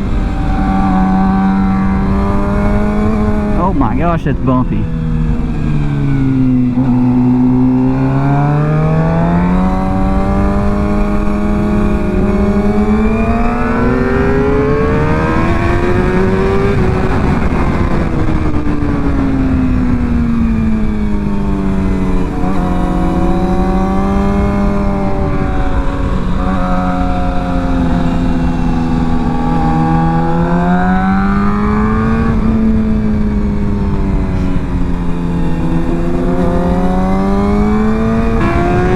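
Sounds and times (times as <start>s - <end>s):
motorcycle engine revving: 0.0s - 3.9s, 4.8s - 38.9s
low rush of wind: 0.0s - 38.9s.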